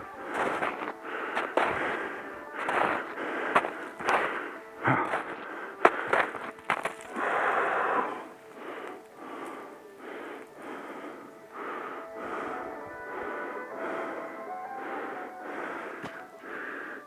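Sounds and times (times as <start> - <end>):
quick wheezy breathing: 0.2 - 17.0.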